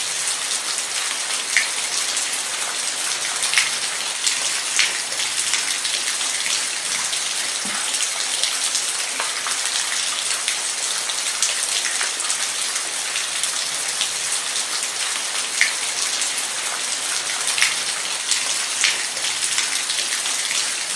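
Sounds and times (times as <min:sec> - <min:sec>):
rain on a hard surface: 0:00.0 - 0:20.9.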